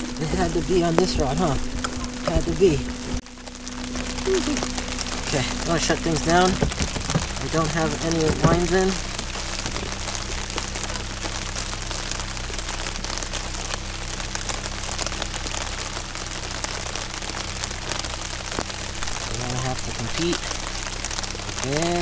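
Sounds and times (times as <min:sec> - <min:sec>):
faint low hum: 0:00.0 - 0:22.0
rain falling on water: 0:00.0 - 0:22.0
rain pattering on umbrella: 0:00.0 - 0:22.0.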